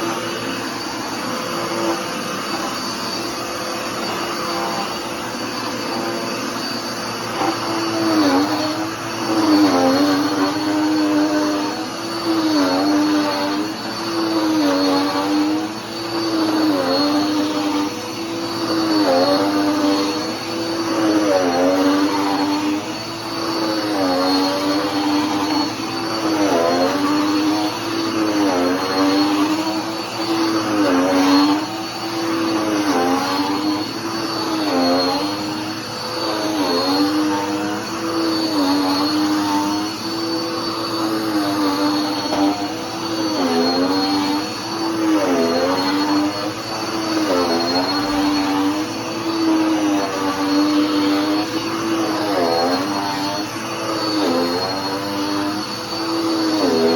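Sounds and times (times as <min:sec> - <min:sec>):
upright vacuum cleaner running: 0:00.0 - 0:56.9.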